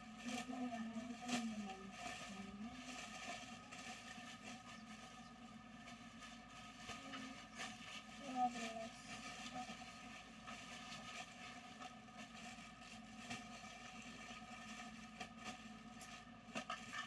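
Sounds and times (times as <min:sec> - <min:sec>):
faint mechanical hum: 0:00.0 - 0:17.0.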